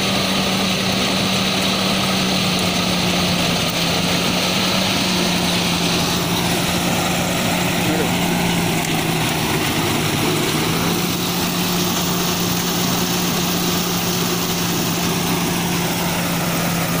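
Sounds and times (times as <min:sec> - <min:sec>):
machine engine running: 0:00.0 - 0:17.0.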